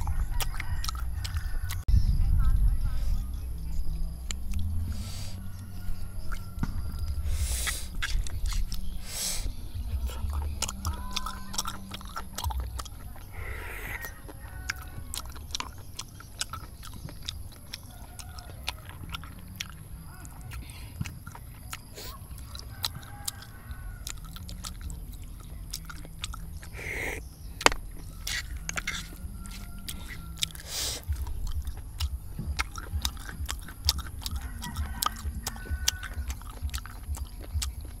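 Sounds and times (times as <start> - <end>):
chewing and wet mouth sounds: 0.0 - 38.0
steady low rumble: 0.0 - 38.0.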